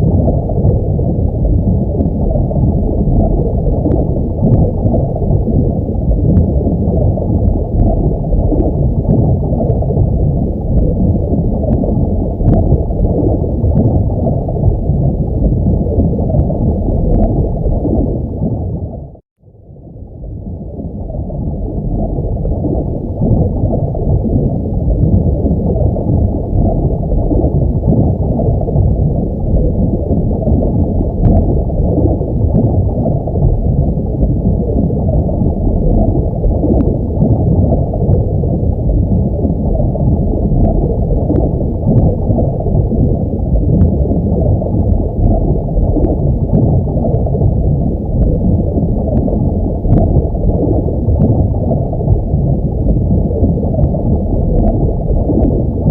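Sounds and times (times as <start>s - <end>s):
underwater rumble and gurgle: 0.0s - 55.9s.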